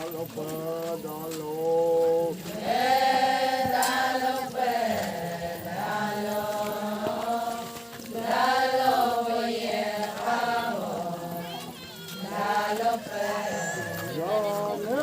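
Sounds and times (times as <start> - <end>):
voices chanting: 0.0 - 15.0.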